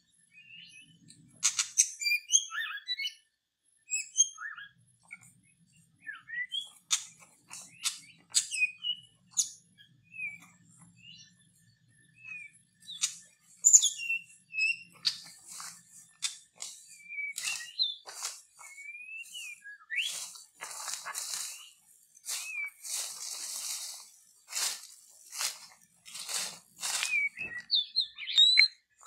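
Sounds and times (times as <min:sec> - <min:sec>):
songbird whistled chirps: 0:00.3 - 0:04.8, 0:06.0 - 0:24.9, 0:26.8 - 0:29.0.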